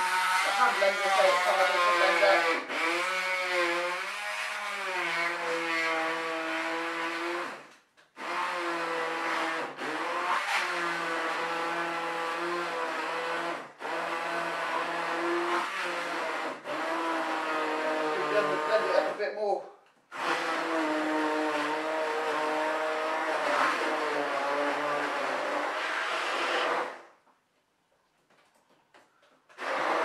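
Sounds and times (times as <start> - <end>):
electric blender motor whining: 0.0 - 19.2, 20.1 - 27.1, 29.6 - 30.0.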